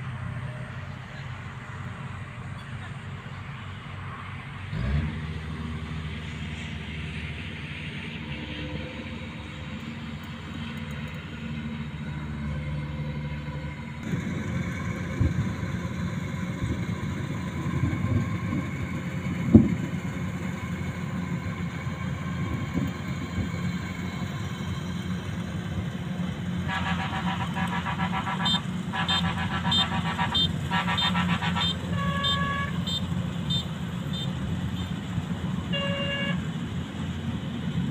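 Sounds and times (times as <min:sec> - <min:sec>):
combine harvester engine droning: 0:00.0 - 0:37.9.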